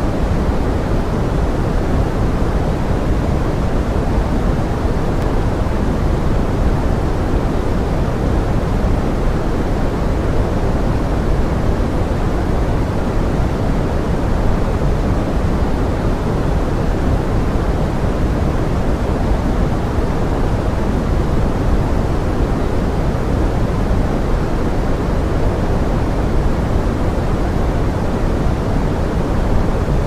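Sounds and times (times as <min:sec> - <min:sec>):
pink noise hiss: 0:00.0 - 0:30.0.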